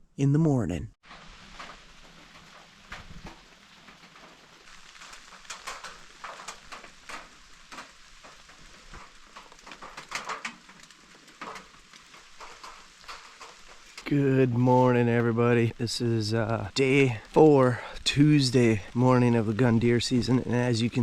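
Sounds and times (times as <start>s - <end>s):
light rain dripping: 1.0s - 21.0s.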